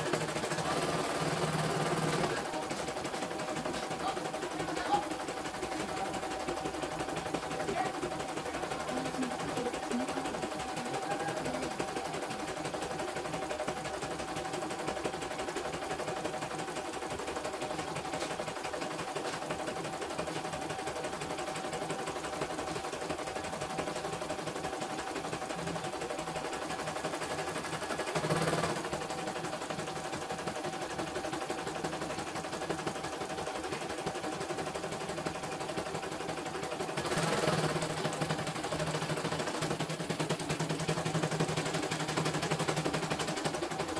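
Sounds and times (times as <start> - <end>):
embroidery machine needle clatter: 0.0 - 43.9.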